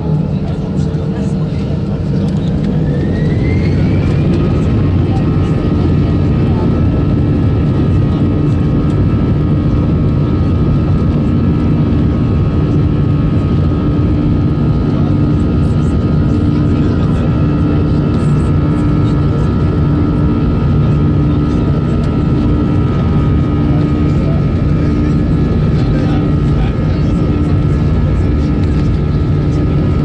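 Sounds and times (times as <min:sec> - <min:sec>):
high engine whine: 0:00.0 - 0:30.0
jet engine roar: 0:00.0 - 0:30.0
low wavering hum: 0:00.0 - 0:30.0.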